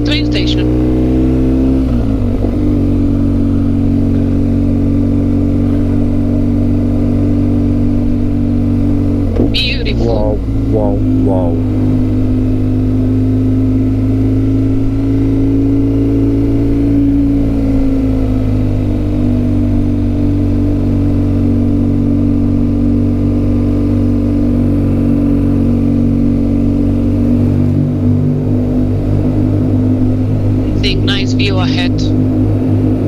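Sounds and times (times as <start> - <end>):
motorcycle engine cruising: 0.0 - 33.0.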